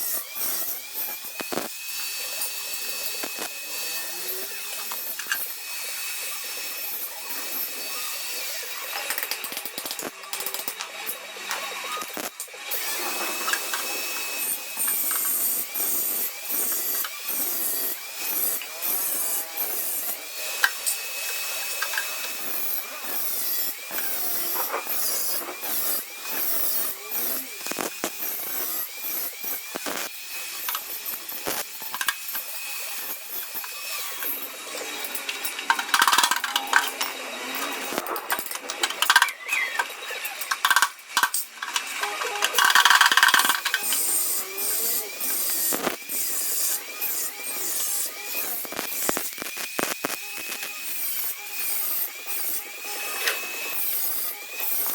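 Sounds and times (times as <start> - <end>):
power tool whining on sheet metal: 0.0 - 54.9.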